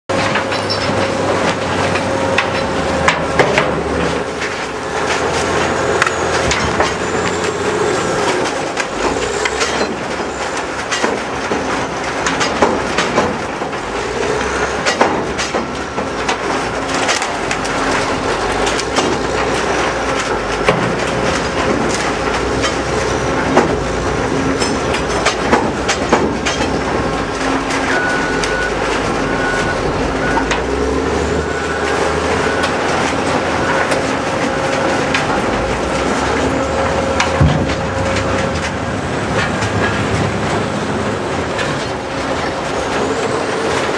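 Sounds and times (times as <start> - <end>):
sharp knocks and cracks: 0.1 - 7.6, 8.2 - 29.2, 32.6 - 42.6.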